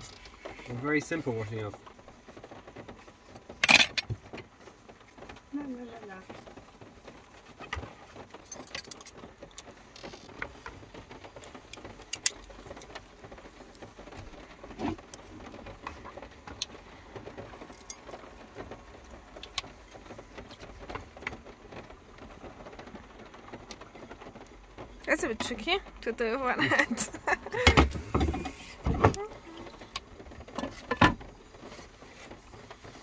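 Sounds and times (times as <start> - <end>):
heavy rain on a roof: 0.0 - 33.0.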